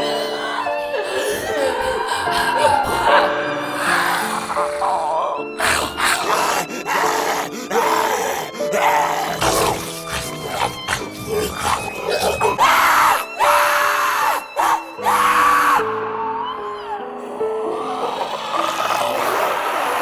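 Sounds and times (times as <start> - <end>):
zombie growls and screams: 0.0 - 15.9, 17.7 - 20.0.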